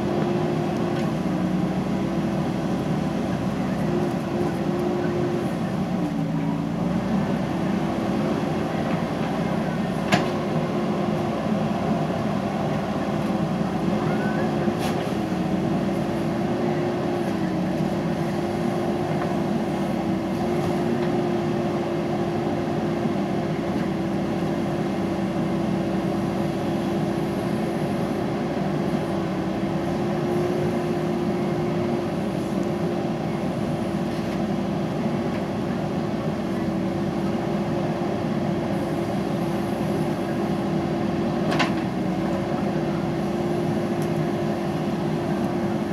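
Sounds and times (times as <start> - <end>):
diesel engine running steadily: 0.0 - 45.9.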